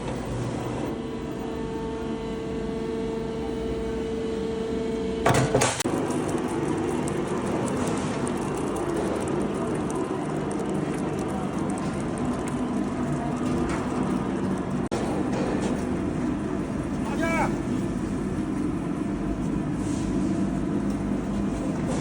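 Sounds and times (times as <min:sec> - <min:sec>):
factory machinery humming: 0:00.0 - 0:22.0.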